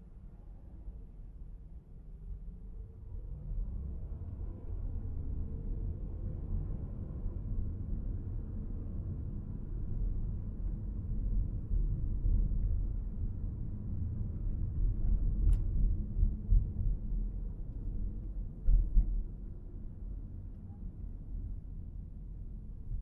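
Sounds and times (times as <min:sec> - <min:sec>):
car engine and road rumble: 0:02.2 - 0:23.0.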